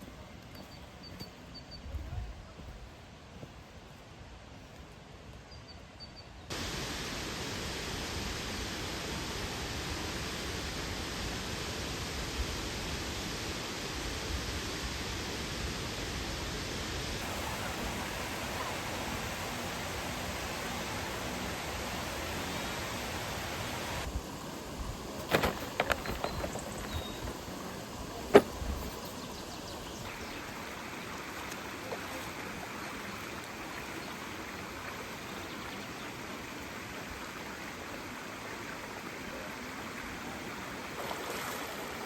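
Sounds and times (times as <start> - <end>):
forest ambience: 0.0 - 42.0
waterfall rushing: 6.5 - 42.0.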